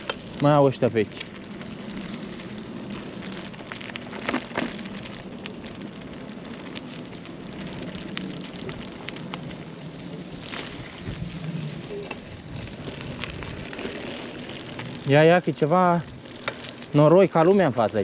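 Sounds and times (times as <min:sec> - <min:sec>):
bike tyres rolling over mud: 0:00.0 - 0:18.0.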